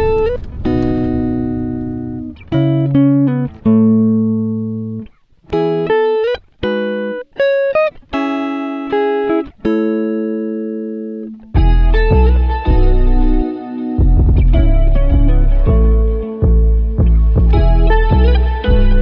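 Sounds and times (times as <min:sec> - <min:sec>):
guitar plucking notes and chords: 0:00.0 - 0:19.0.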